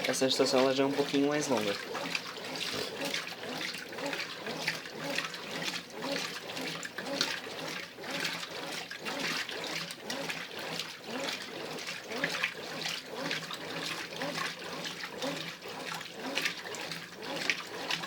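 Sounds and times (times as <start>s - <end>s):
faint motor hum: 0.0s - 18.0s
water sloshing in washing machine: 0.0s - 18.0s.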